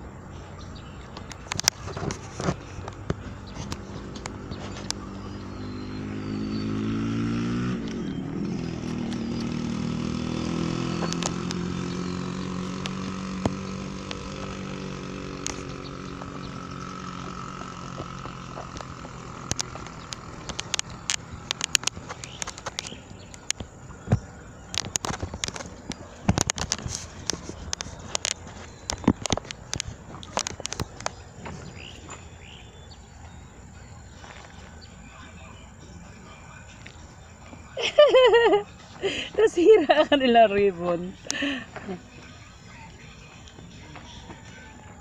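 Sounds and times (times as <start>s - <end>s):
vehicle engine passing by: 0.0s - 45.0s.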